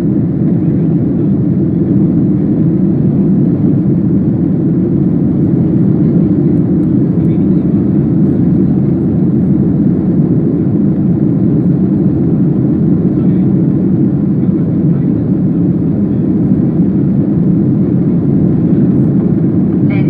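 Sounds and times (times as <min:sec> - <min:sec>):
airplane cabin rumble: 0:00.0 - 0:20.0.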